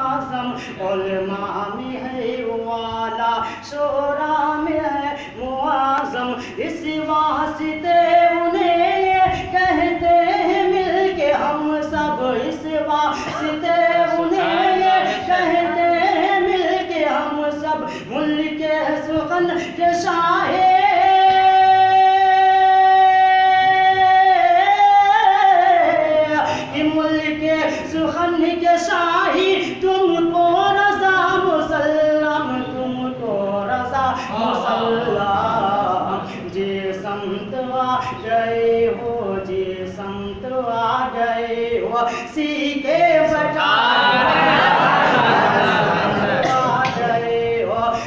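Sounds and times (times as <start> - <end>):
man singing unaccompanied: 0.0 - 44.4, 46.1 - 48.0.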